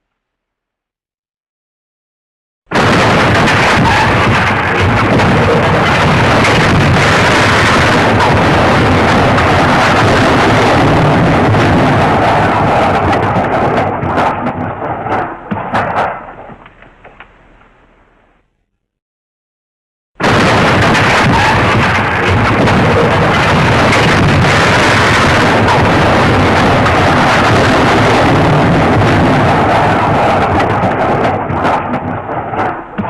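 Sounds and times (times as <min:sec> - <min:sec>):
loud crash and smashing: 0:02.7 - 0:16.7, 0:20.2 - 0:33.0.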